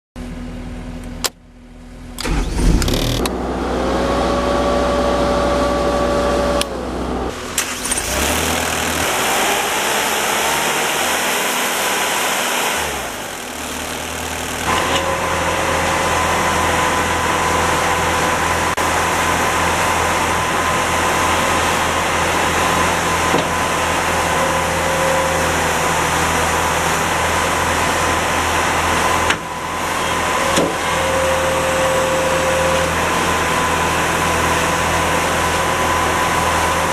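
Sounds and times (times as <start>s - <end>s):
diesel engine starting and running: 0.2s - 36.9s.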